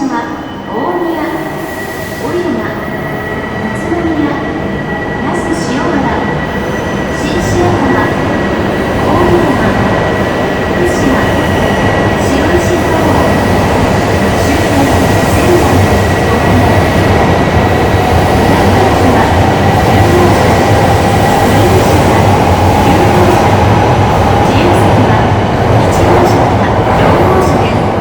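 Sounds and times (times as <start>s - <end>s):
train rumbling into station: 0.0s - 28.0s.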